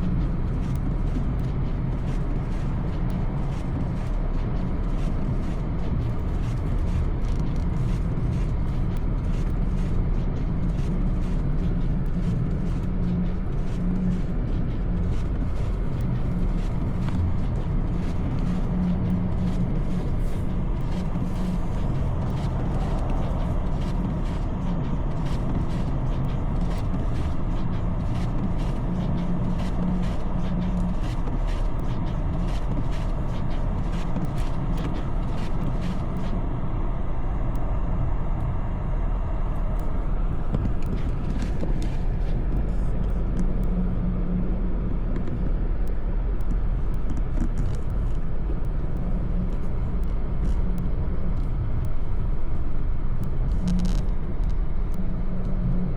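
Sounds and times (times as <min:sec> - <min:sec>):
motor vehicle rumble: 0:00.0 - 0:55.9.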